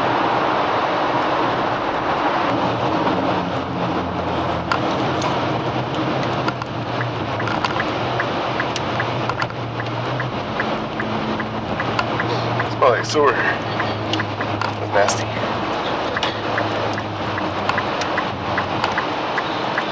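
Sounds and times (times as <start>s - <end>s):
car road and engine noise: 0.0s - 19.9s.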